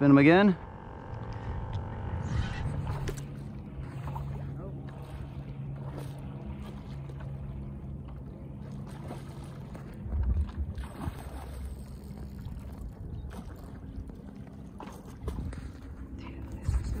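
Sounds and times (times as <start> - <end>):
low motor hum: 0.0 - 17.0
low rumble: 0.0 - 17.0
water noise: 0.0 - 17.0
wind: 0.0 - 17.0.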